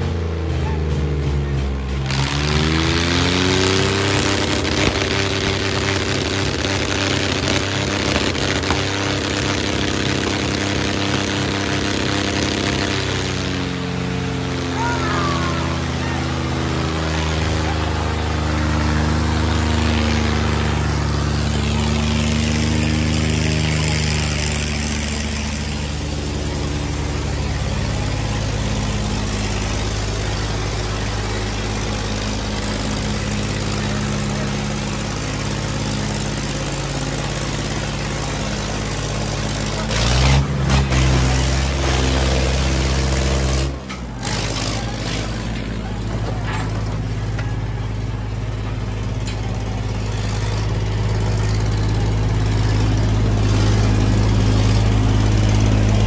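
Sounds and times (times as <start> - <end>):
diesel tractor engines running hard: 0.0 - 56.0.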